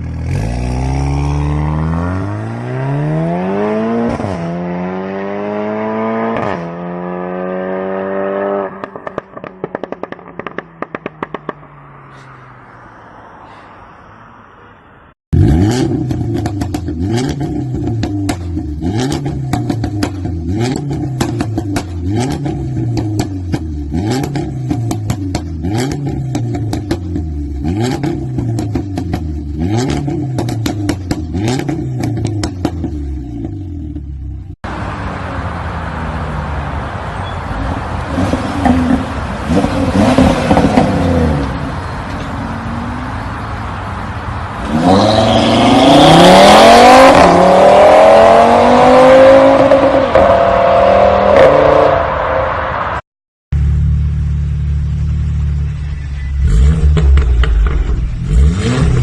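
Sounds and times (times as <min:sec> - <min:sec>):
car engine revving: 0:00.0 - 0:13.4, 0:15.3 - 0:37.0, 0:37.6 - 0:52.1, 0:53.6 - 0:59.0.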